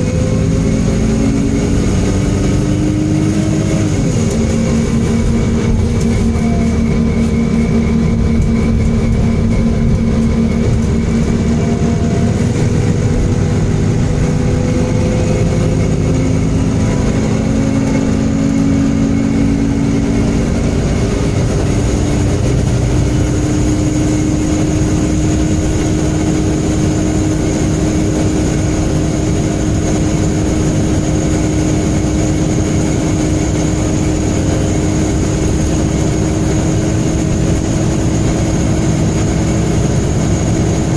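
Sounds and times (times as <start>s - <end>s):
bus engine drone: 0.0s - 40.9s
high-pitched whine: 0.0s - 40.9s.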